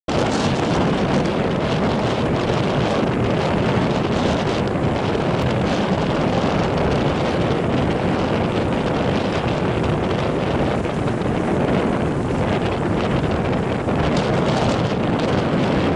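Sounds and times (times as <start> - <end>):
strong wind blowing on microphone: 0.1 - 15.9.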